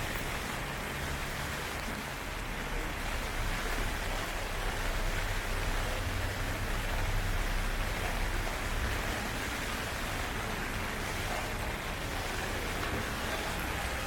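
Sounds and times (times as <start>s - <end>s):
heavy rain hissing: 0.0s - 14.0s.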